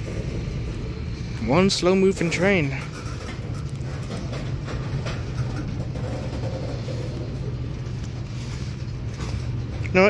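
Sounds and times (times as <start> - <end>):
diesel locomotive drone: 0.0 - 10.0
freight train rumble: 0.0 - 10.0.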